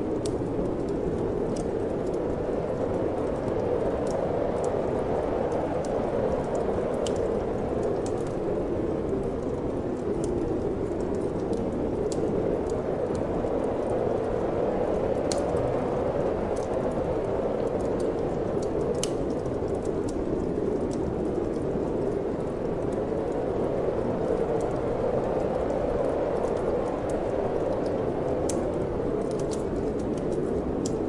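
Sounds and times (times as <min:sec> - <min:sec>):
steady wind: 0:00.0 - 0:31.0
wood fire crackling: 0:00.0 - 0:31.0.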